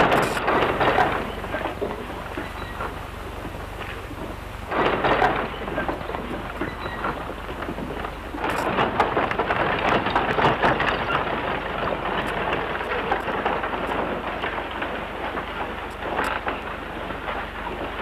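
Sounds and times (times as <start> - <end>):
wooden wagon wheels rolling: 0.0 - 18.0.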